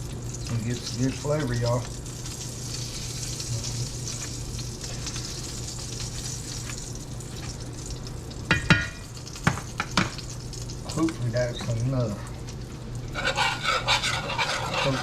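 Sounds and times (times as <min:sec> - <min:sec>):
grease sizzling in a frying pan: 0:00.0 - 0:15.0.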